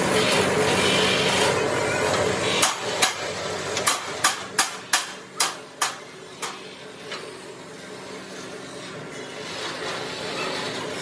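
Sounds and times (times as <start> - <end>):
steady machine noise: 0.0 - 11.0.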